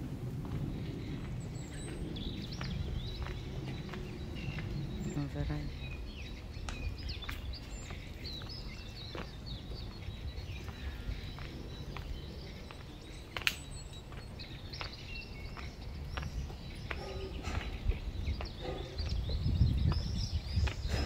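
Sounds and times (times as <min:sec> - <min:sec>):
small birds chirping: 0:00.0 - 0:21.0
steady low rumble: 0:00.0 - 0:21.0.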